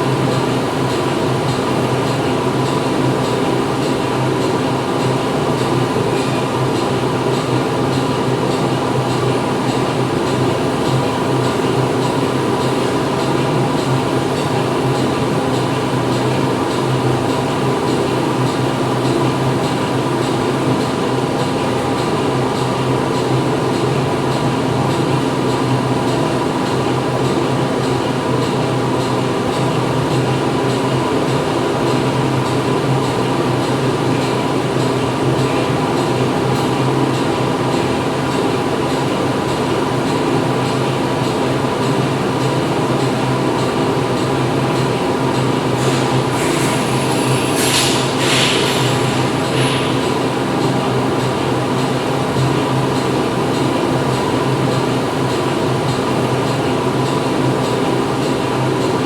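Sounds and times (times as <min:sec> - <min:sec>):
factory machinery running: 0:00.0 - 0:59.0.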